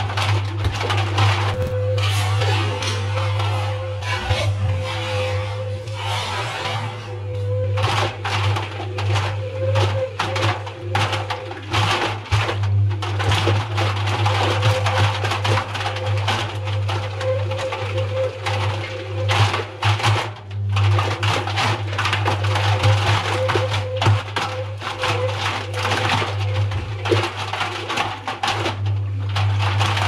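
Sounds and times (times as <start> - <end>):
washing machine motor hum: 0.0 - 30.0.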